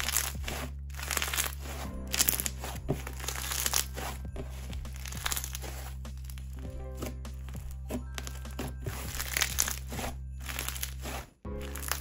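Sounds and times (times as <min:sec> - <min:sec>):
crunchy slime crackling: 0:00.0 - 0:06.6, 0:07.9 - 0:12.0.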